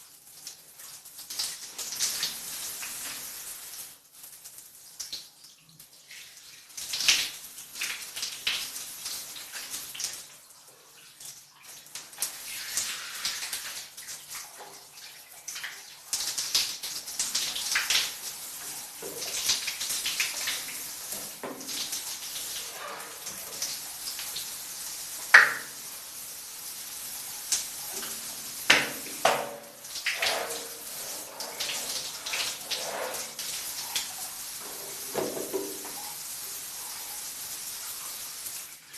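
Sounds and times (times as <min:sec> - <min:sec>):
shower water splashing: 0:00.0 - 0:38.9.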